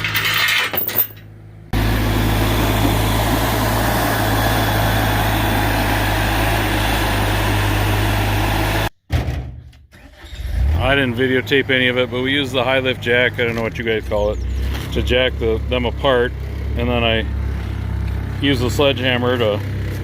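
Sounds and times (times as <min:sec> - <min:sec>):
engine idling: 0:01.5 - 0:08.9, 0:10.6 - 0:20.0.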